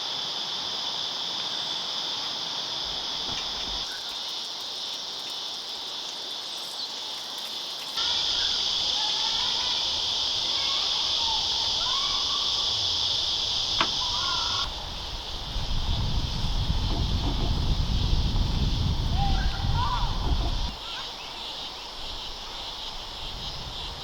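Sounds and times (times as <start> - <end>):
insect chorus droning: 0.0 - 24.0.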